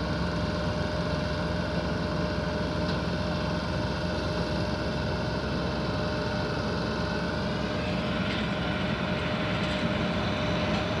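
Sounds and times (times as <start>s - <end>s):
constant whine: 0.0s - 11.0s
diesel truck engines under load: 0.0s - 11.0s.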